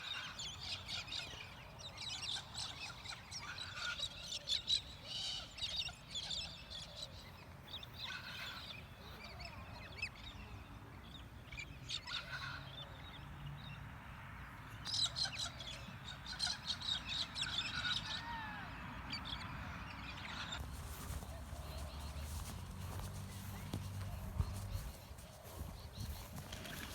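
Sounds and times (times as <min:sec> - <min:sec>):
wild birds chirping: 0:00.0 - 0:26.9.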